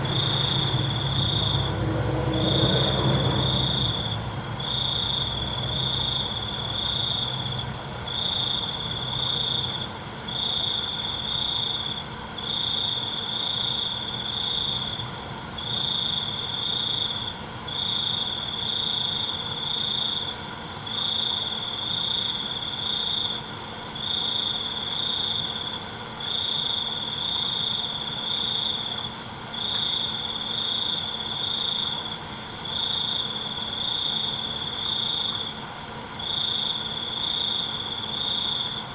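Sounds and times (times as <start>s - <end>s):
cricket trilling: 0.0s - 38.9s
insects' high-pitched trills: 0.0s - 38.9s.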